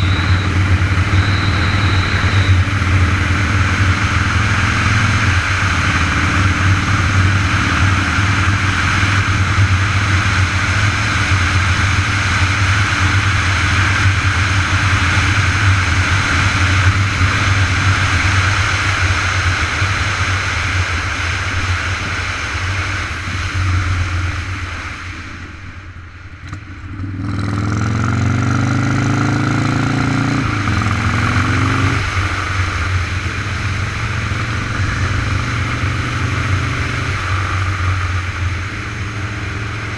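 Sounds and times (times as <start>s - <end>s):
heavy wind noise: 0.0s - 27.5s, 30.4s - 39.9s
vehicle engine running: 0.0s - 39.9s.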